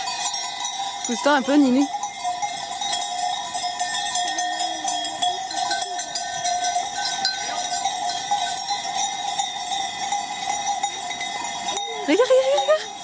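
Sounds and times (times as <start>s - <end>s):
sheep bells clanking: 0.0s - 13.0s.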